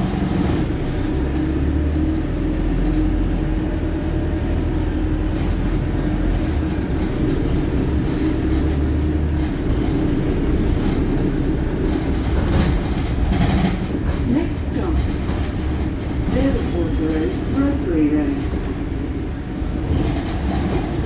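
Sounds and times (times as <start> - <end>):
bus diesel engine running: 0.0 - 21.0
road noise rumble: 0.0 - 21.0.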